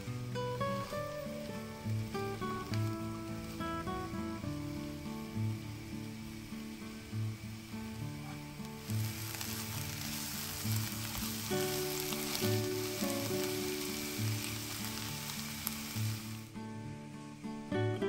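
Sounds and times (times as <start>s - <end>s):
vegetables sizzling in oil: 0.0s - 17.9s
soft background music: 0.0s - 18.0s.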